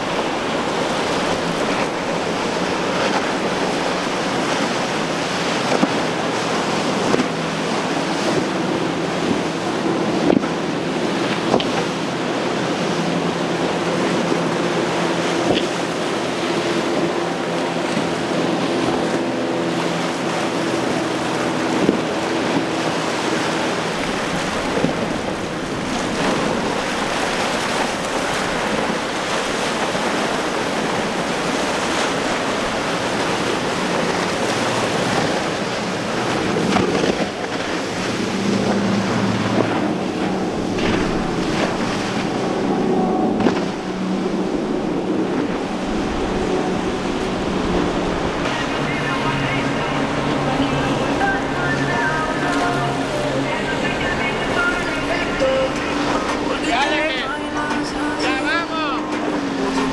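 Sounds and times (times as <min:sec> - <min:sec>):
boat engine drone: 0:00.0 - 0:59.9
rushing splashing water: 0:00.0 - 0:59.9.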